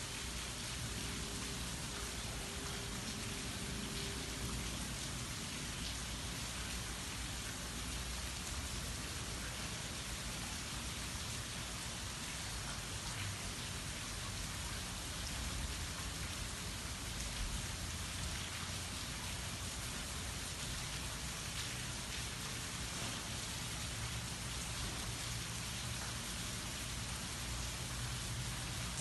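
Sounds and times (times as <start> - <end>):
light rain on trees and grass: 0.0 - 29.0.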